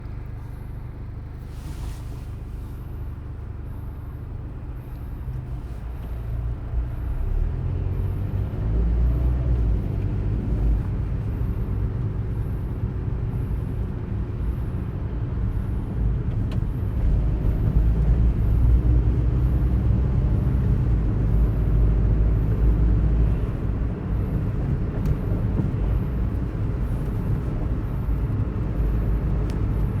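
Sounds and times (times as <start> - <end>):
moving vehicle rumble from inside: 0.0 - 30.0.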